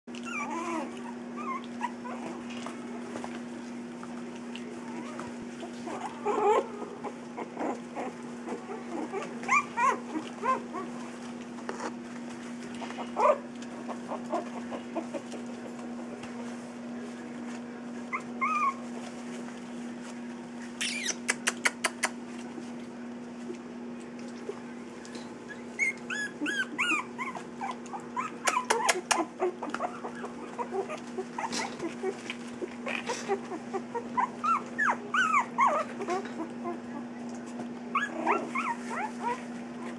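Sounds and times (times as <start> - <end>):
puppies whimpering and yipping: 0.1 - 15.8, 17.9 - 19.4, 24.4 - 39.9
steady low hum: 0.1 - 39.9.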